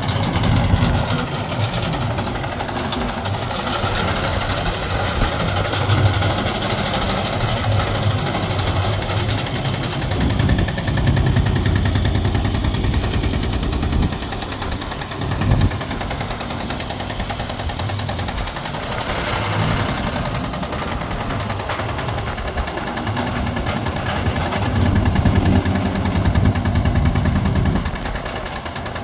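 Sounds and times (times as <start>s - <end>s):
dumper engine pulsing: 0.0s - 29.0s.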